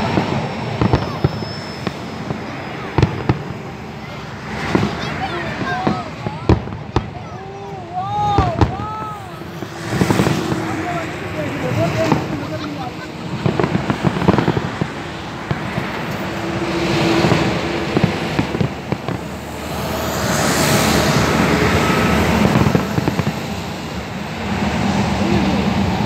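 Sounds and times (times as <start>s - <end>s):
fireworks bangs and pops: 0.0s - 25.8s
steady rushing background noise: 0.0s - 26.0s.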